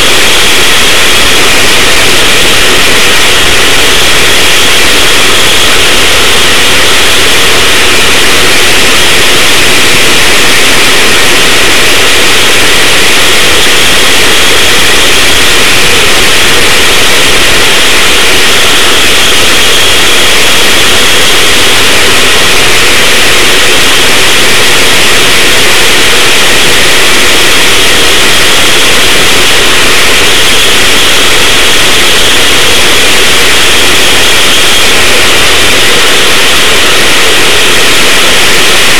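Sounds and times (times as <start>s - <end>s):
go-kart engine running at speed: 0.0s - 38.9s
wind noise: 0.0s - 38.9s.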